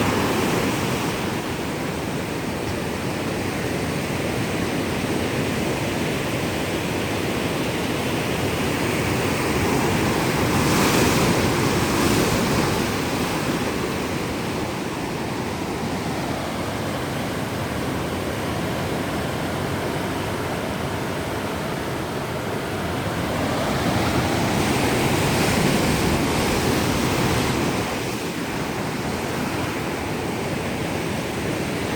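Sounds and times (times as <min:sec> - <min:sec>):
ocean waves breaking on shore: 0:00.0 - 0:31.9.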